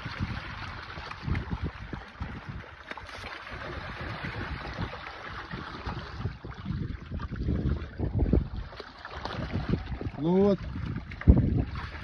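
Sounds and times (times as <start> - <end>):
fish splashing in water: 0.0 - 12.0
wind buffeting microphone: 0.0 - 12.0.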